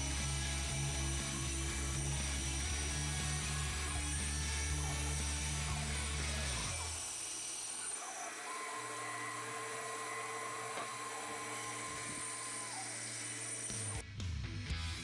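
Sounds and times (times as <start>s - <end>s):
bandsaw cutting through wood: 0.0s - 14.0s
high steady blade whine: 0.0s - 14.0s.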